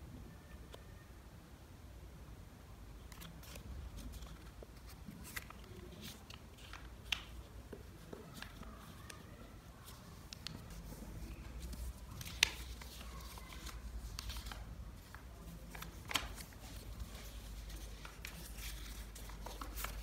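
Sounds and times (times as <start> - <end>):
paper rustling and crinkling: 3.1 - 20.0.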